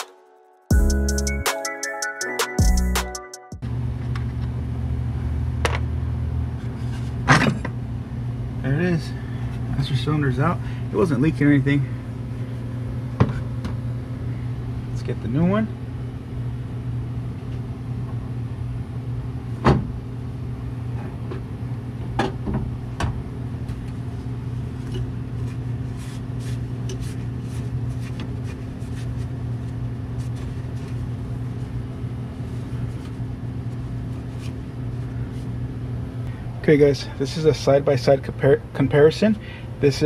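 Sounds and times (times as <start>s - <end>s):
steady low hum: 3.6s - 40.0s.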